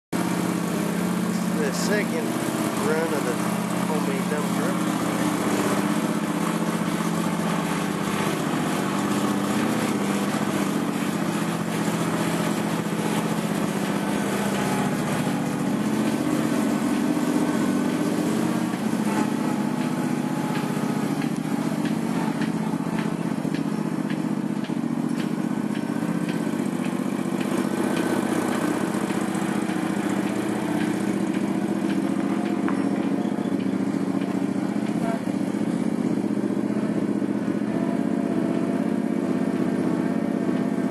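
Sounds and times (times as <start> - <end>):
truck engine running: 0.1 - 40.9.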